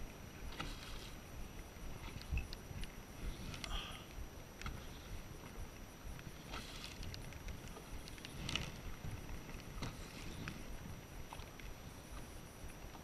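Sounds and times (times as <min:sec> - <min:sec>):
waves splashing against boat hull: 0:00.0 - 0:13.0
wind rumble on microphone: 0:00.0 - 0:13.0.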